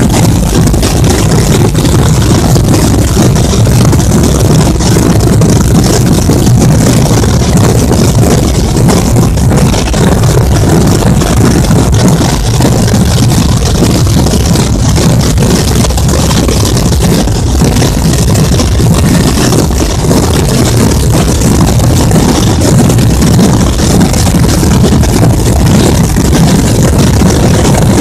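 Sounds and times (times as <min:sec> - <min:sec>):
massed drums rolling: 0:00.0 - 0:28.0.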